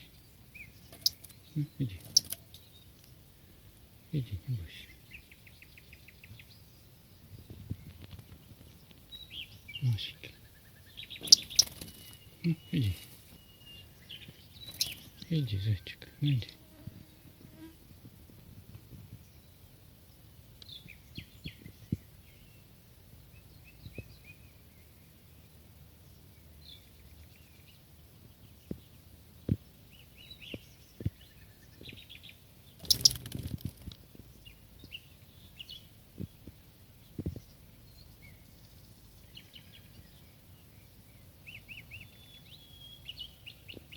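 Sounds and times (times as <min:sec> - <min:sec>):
birds chirping: 0:00.0 - 0:17.7, 0:26.0 - 0:43.9.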